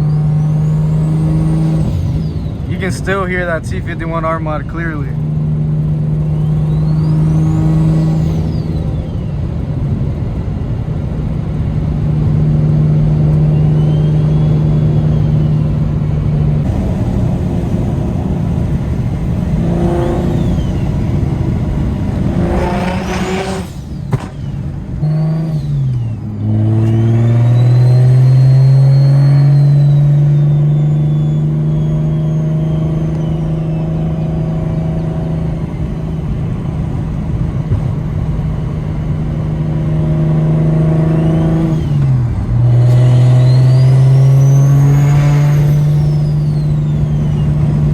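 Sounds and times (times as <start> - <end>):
turbo whistling: 0.0 - 5.1, 6.1 - 9.5, 13.2 - 36.1, 40.8 - 47.9
car engine under way: 0.0 - 47.9.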